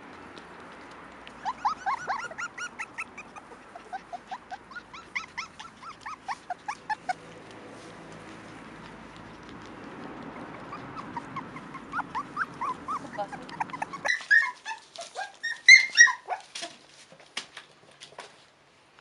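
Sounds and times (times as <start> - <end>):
puppies whimpering and yipping: 0.3 - 16.7.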